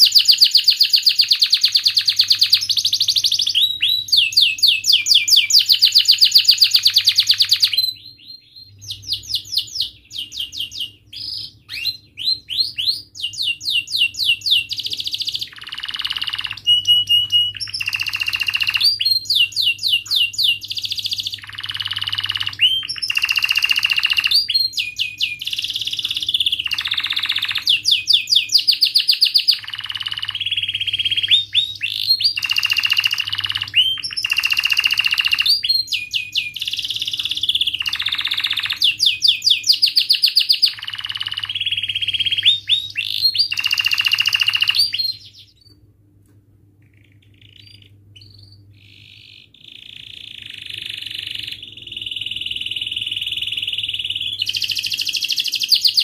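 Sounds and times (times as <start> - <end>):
canary singing trills: 0.0 - 45.8, 46.8 - 56.0.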